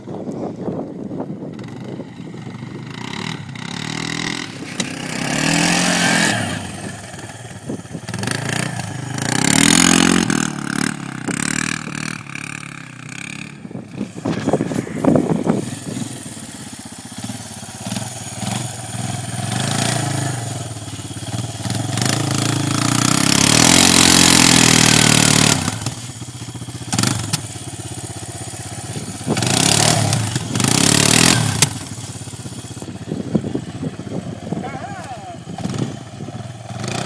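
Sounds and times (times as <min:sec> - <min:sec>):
quad bike engine revving: 0:01.5 - 0:37.0.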